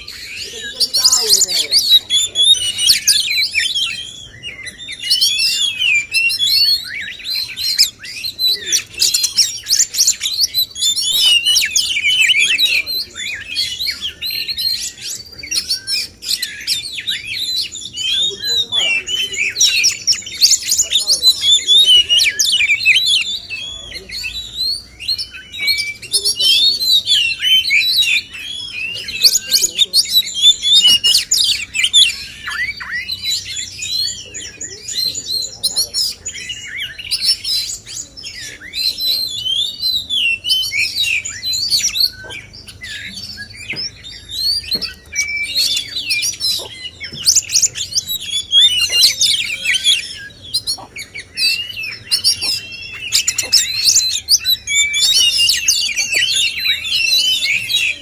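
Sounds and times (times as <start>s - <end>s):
birds singing whistles and trills: 0.0s - 58.0s.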